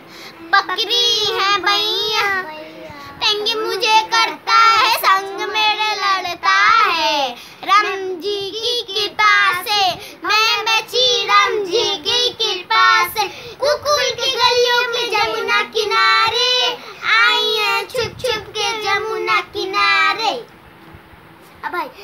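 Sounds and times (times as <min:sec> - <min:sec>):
girls singing unaccompanied: 0:00.0 - 0:20.6.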